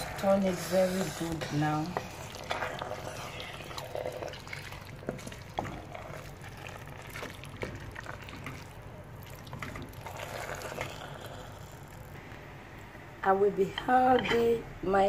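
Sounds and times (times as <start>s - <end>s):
soup stirred squishing and sloshing: 0.0s - 12.2s.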